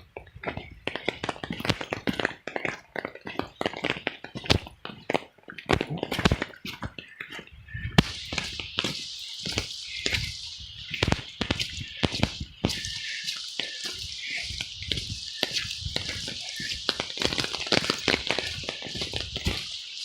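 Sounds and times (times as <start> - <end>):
raindrops tapping: 0.0 - 20.0
steady rain hiss: 0.0 - 20.0.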